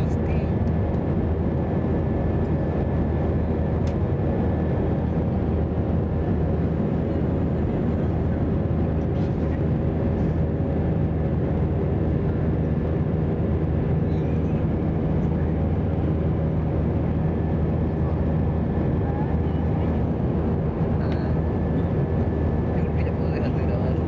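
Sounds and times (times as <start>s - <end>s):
jet engine drone: 0.0s - 24.0s.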